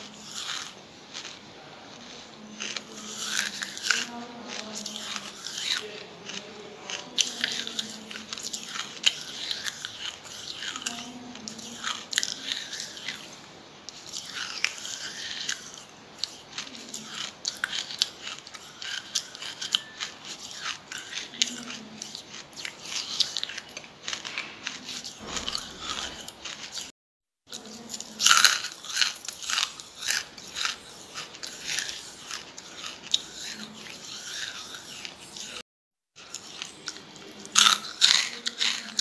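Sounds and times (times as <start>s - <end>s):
person chewing charcoal crunching: 0.0s - 26.9s, 27.5s - 35.6s, 36.2s - 39.0s.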